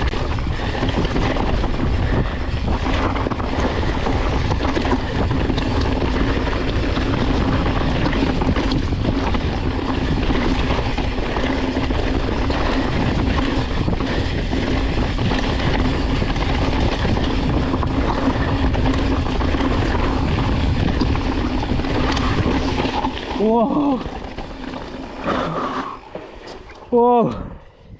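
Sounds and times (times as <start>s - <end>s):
bike tyres rolling on trail: 0.0s - 27.9s
wind buffeting microphone: 0.0s - 27.9s.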